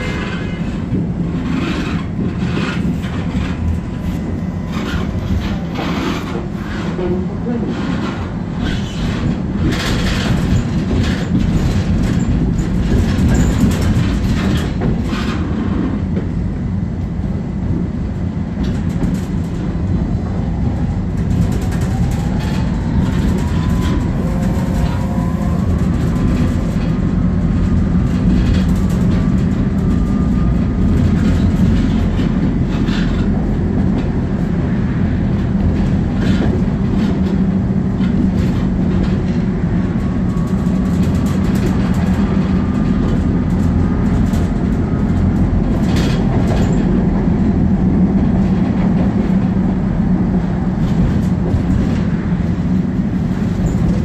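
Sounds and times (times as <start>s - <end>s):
tram rumbling on rails: 0.0s - 54.0s.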